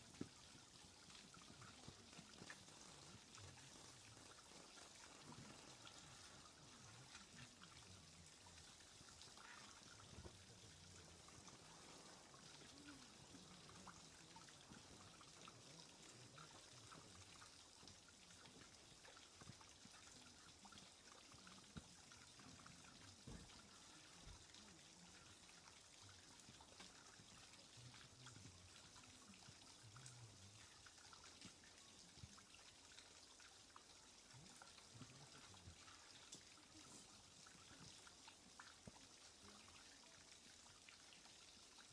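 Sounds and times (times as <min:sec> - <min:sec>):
faint hiss: 0:00.0 - 0:41.9.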